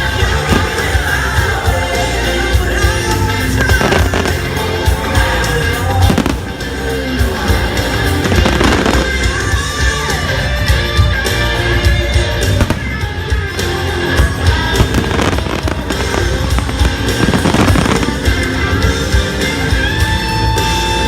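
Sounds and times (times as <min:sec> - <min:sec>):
fireworks bangs and crackles: 0:00.0 - 0:10.2, 0:11.8 - 0:21.0
show music playing loudly: 0:00.0 - 0:21.0.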